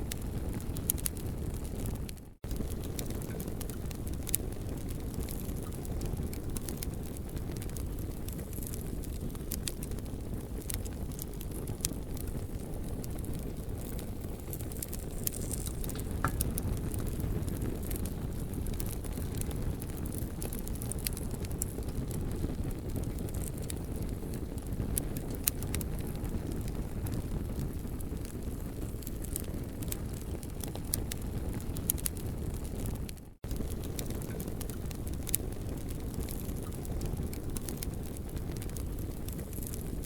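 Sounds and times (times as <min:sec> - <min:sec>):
crackles and pops of burning wood: 0:00.0 - 0:40.0
low rumble of fire: 0:00.0 - 0:40.0.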